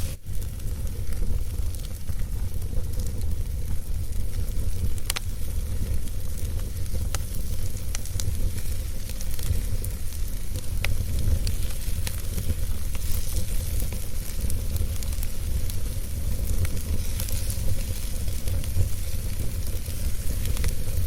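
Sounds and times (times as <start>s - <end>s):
fire crackles and pops: 0.0s - 21.0s
wood fire rumbling and hissing: 0.0s - 21.0s.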